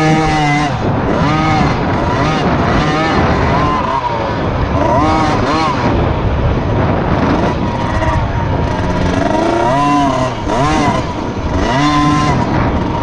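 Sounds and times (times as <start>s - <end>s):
motocross bike engine revving: 0.0s - 13.0s
steady rush of noise: 0.0s - 13.0s.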